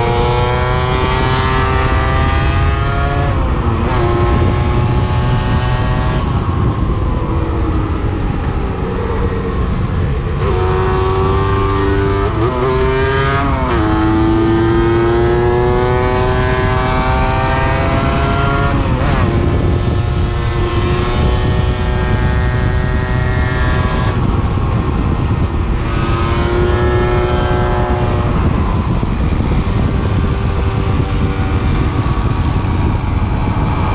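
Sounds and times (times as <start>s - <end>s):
low wind rumble: 0.0s - 33.9s
motorcycle engine revving: 0.0s - 33.9s.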